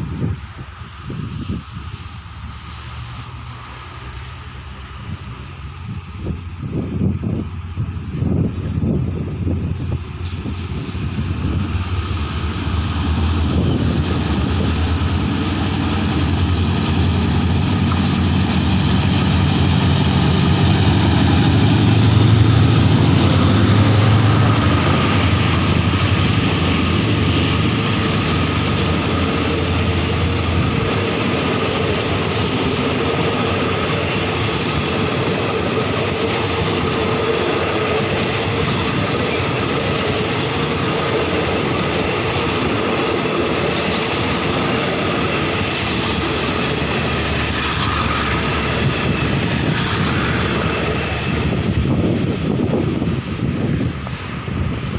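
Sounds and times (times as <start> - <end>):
locomotive engine drone: 0.0 - 54.9
train wheels rumbling on rail: 0.0 - 54.9.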